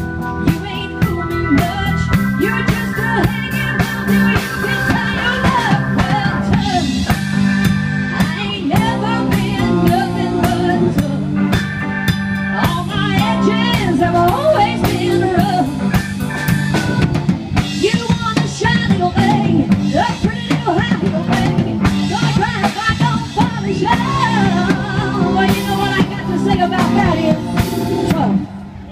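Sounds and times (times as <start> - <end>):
drum kit: 0.0 - 28.7
electric guitars: 0.0 - 28.9
keyboard: 0.0 - 28.9
woman singing: 0.4 - 7.2, 8.1 - 11.6, 12.6 - 15.8, 17.7 - 28.5.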